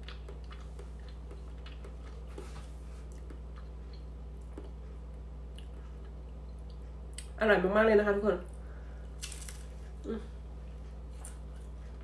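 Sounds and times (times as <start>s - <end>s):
person chewing crisp pastry: 0.0s - 7.3s, 8.8s - 12.0s
steady low hum: 0.0s - 12.0s.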